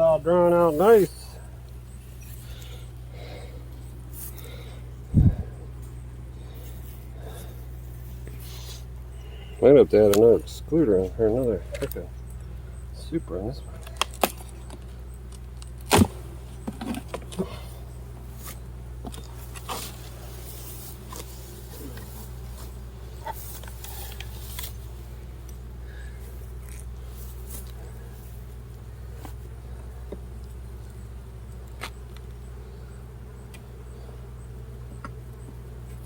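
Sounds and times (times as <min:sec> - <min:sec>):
bees humming: 0:00.0 - 0:36.0.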